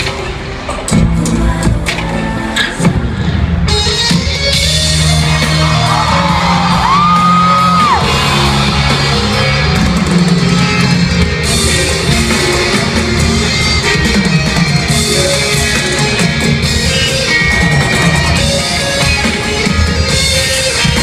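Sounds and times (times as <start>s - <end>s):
fans yelling and cheering: 0.0s - 21.0s
loud live concert music: 0.0s - 21.0s.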